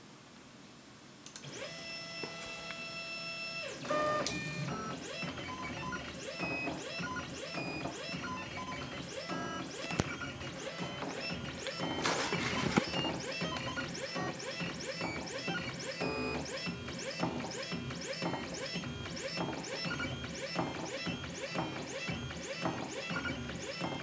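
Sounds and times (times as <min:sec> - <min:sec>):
stepper motors whining: 0:01.4 - 0:24.0.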